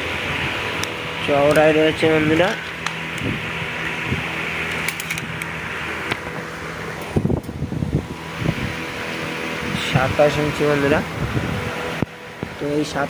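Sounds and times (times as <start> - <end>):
fan whirring: 0.0 - 13.0
low hum: 0.0 - 13.0.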